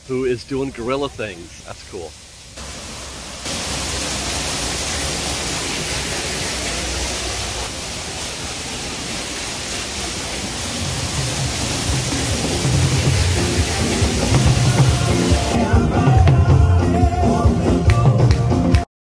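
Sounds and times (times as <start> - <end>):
waterfall rushing over rocks: 0.0 - 16.1.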